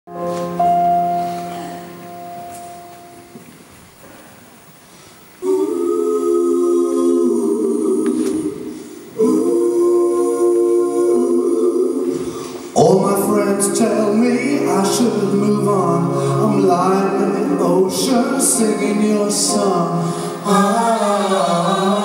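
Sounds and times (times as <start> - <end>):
singers holding harmony chords: 0.1 - 3.5, 5.2 - 22.0.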